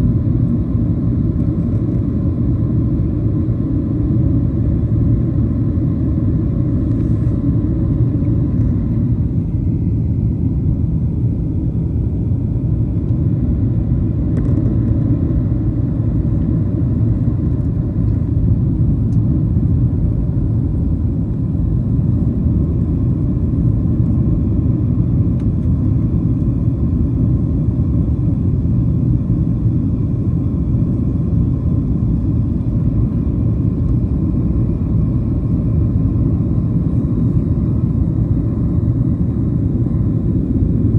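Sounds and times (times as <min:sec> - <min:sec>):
airplane cabin roar: 0:00.0 - 0:40.9.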